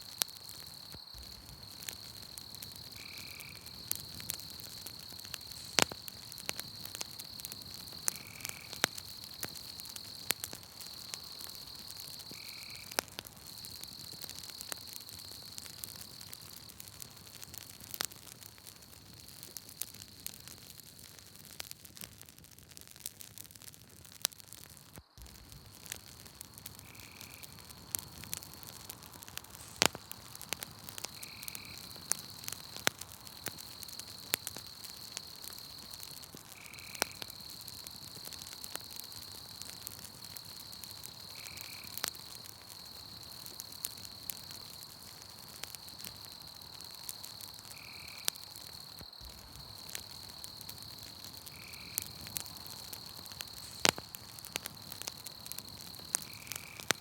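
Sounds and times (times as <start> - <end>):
night insects trilling: 0.0 - 21.2, 24.5 - 57.0
campfire crackling and popping: 0.0 - 57.0.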